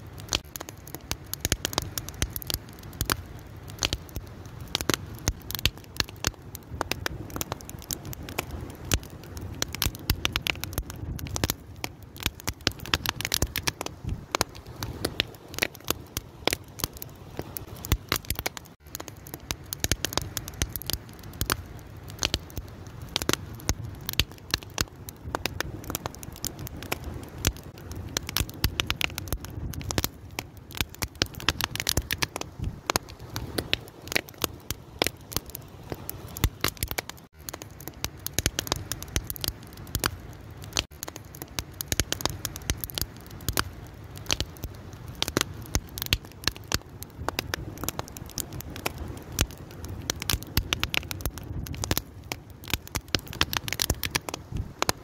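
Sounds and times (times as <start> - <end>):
fire crackling and popping: 0.0 - 55.0
low rumble of burning: 0.0 - 55.0.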